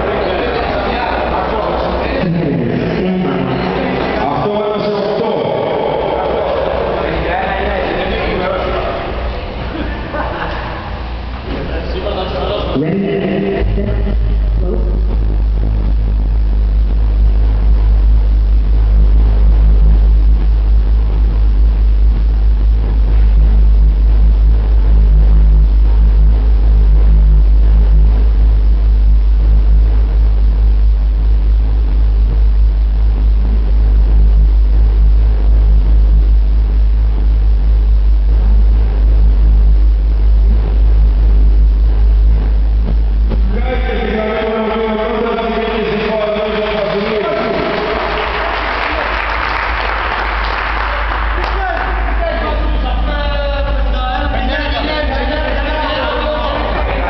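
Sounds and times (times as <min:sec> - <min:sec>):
loud deep subwoofer bass note: 0:00.0 - 0:57.0.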